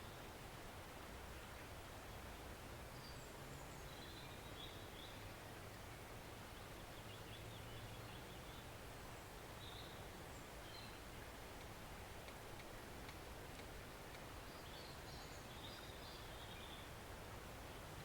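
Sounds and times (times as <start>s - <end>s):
forest stream rushing: 0.0s - 18.0s.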